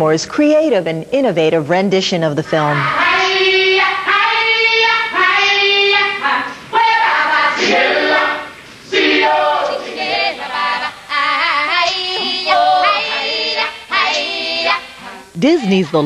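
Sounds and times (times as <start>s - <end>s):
ensemble of voices singing: 2.7s - 16.0s.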